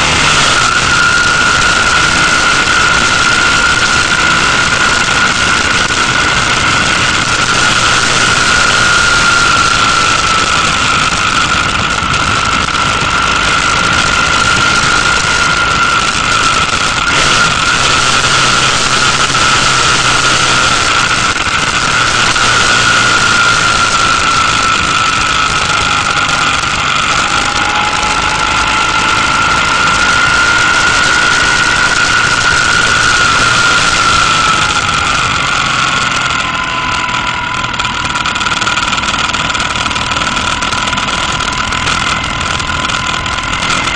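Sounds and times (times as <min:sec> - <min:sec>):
motorcycle engine cruising: 0:00.0 - 0:43.9
steady high whine: 0:00.0 - 0:43.9
wind rushing over microphone: 0:00.0 - 0:43.9.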